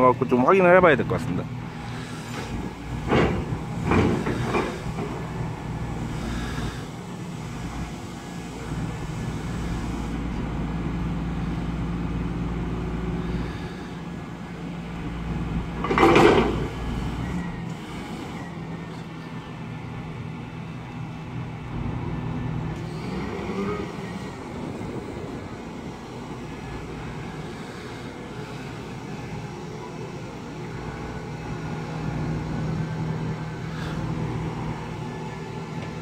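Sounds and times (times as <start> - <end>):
diesel engine and hydraulics: 0.0 - 36.0.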